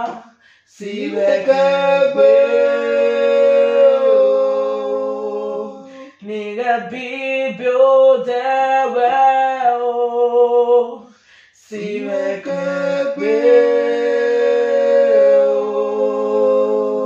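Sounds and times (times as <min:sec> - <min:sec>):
man and woman singing: 0:00.0 - 0:17.0.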